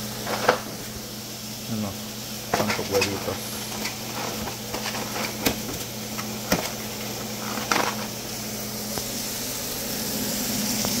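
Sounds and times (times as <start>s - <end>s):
mechanical hum with hiss: 0.0s - 11.0s.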